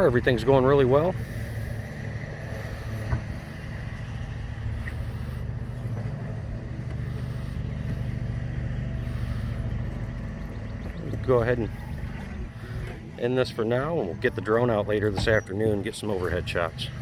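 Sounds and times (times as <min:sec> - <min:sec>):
low mechanical drone: 0:00.0 - 0:17.0.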